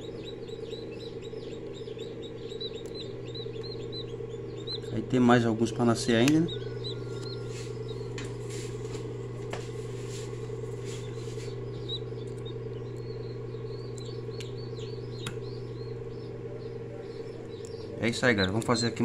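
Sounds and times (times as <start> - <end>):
chicks peeping: 0.0 - 19.0
eggshell crackling: 0.0 - 19.0
incubator humming: 0.0 - 19.0.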